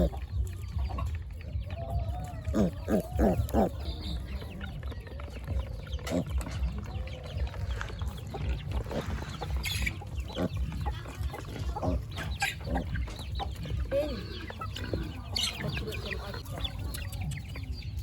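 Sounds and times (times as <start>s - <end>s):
chickens clucking: 0.0s - 18.0s
steady low rumble: 0.0s - 18.0s.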